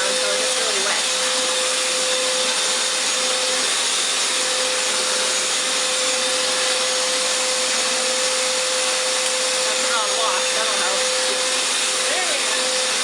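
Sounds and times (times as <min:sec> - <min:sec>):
floor cleaner motor whining: 0:00.0 - 0:13.0.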